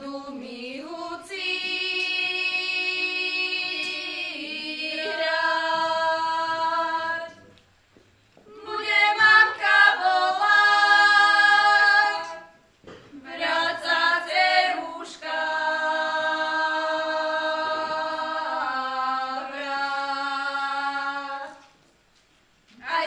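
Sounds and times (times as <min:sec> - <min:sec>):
women singing unaccompanied: 0:00.0 - 0:07.5, 0:08.4 - 0:21.8, 0:22.8 - 0:23.0.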